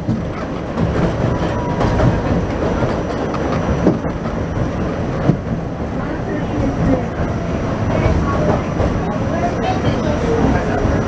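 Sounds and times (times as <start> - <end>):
clacks over rail joints: 0.0 - 11.0
train wheels rumbling on rails: 0.0 - 11.0.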